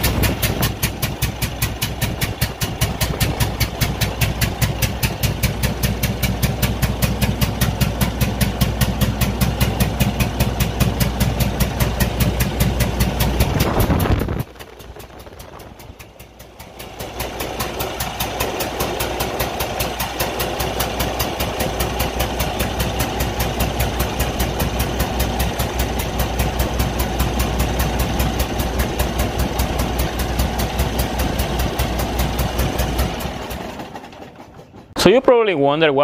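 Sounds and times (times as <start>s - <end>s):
diesel engine pulsing: 0.0s - 36.0s.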